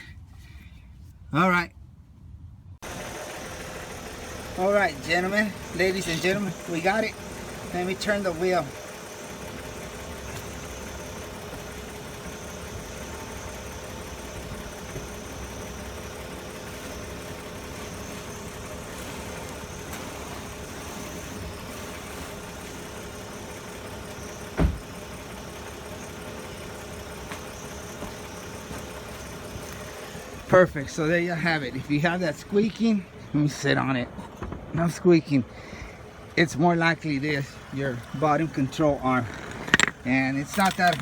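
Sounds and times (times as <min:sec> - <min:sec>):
car engine idling: 0:02.8 - 0:41.0.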